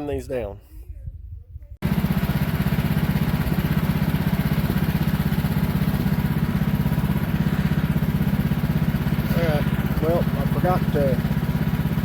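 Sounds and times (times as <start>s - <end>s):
sawmill gas engine running: 1.8s - 12.0s.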